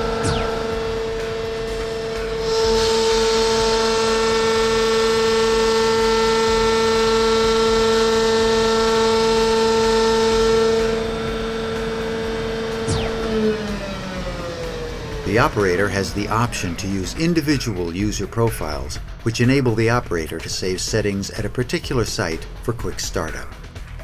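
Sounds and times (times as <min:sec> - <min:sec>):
drill rig whining: 0:00.0 - 0:24.0.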